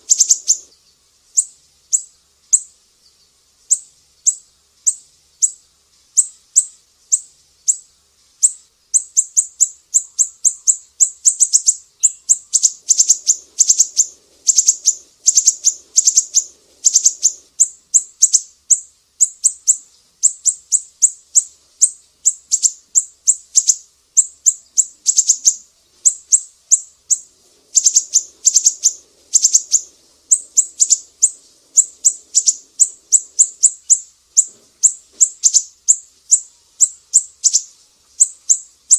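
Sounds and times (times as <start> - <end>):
bird singing high-pitched notes: 0.0 - 2.7, 3.7 - 5.6, 6.2 - 38.9.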